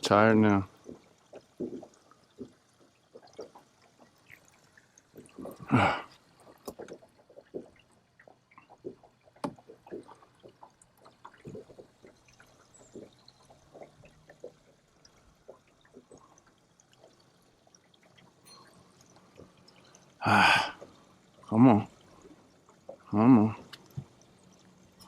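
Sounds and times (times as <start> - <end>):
water splashing and dripping: 0.0 - 25.0.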